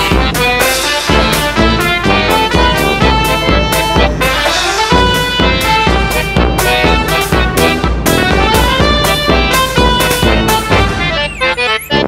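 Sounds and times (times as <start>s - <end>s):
upbeat instrumental music: 0.0s - 12.0s.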